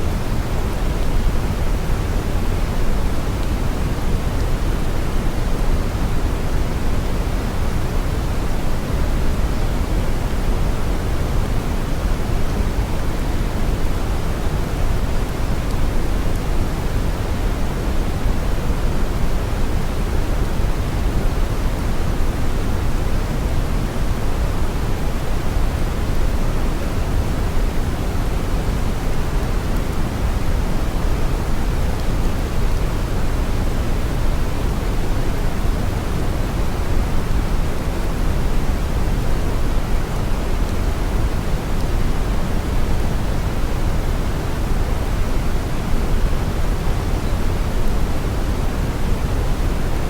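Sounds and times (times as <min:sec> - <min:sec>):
brown noise hiss: 0:00.0 - 0:50.0.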